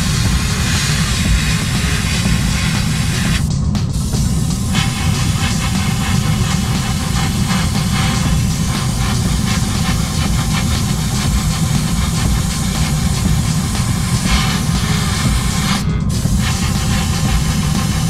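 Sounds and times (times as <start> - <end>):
airbrush hissing: 0.0 - 18.0
constant low hum: 0.0 - 18.0.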